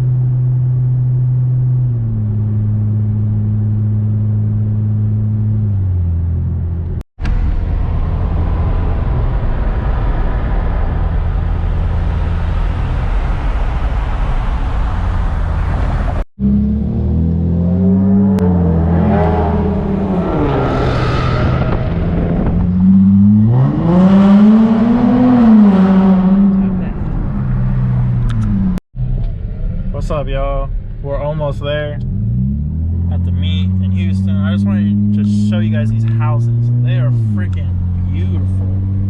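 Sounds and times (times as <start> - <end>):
car engine cruising: 0.0 - 39.0
car engine revving: 0.0 - 39.0
road noise: 0.0 - 39.0.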